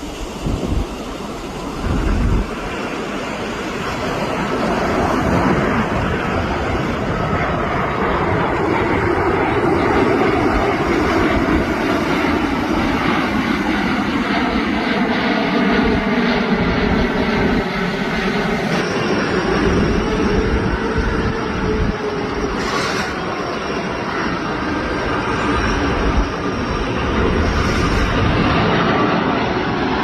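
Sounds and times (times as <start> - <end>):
propeller aircraft engine: 0.0 - 30.0
wind buffeting microphone: 0.0 - 30.0.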